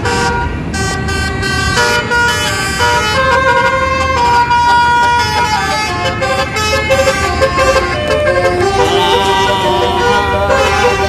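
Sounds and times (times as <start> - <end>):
low rumble of engine and traffic: 0.0 - 11.0
musical air horn playing a tune: 1.1 - 11.0.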